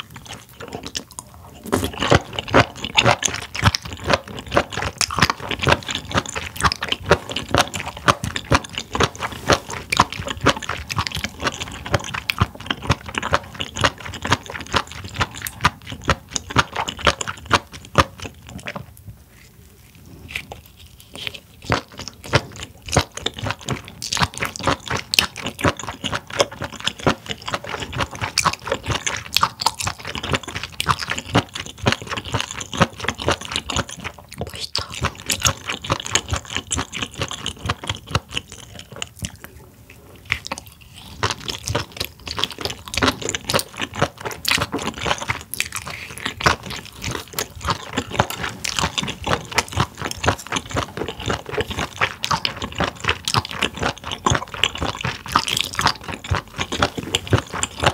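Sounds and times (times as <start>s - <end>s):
close chewing and biting: 0.0s - 57.9s.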